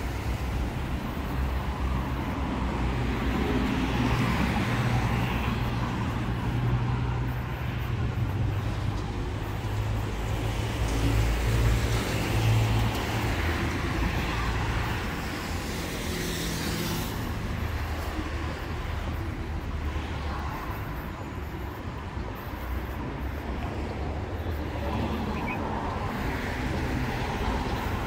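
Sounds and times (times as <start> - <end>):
car engines rumbling: 0.0 - 28.0
tyre noise of passing cars: 0.0 - 28.0.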